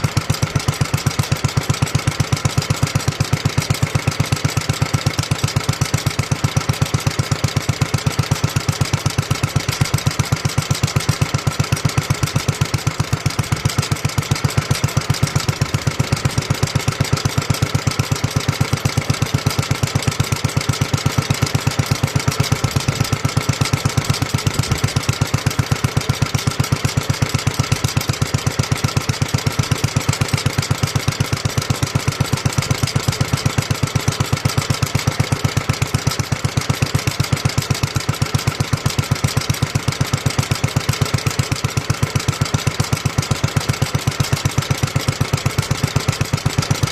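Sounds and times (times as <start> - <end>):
stationary engine running: 0.0 - 46.9.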